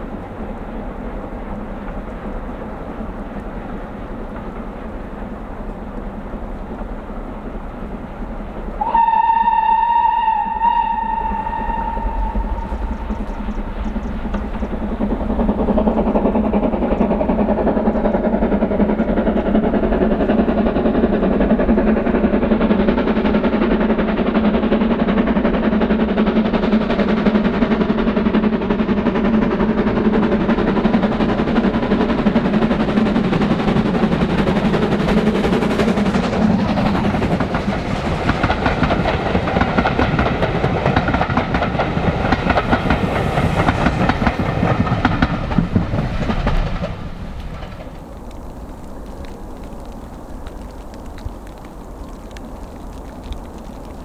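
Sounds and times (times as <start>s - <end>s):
steam locomotive chuffing: 0.0s - 49.2s
train wheels clicking over rail joints: 0.0s - 54.0s.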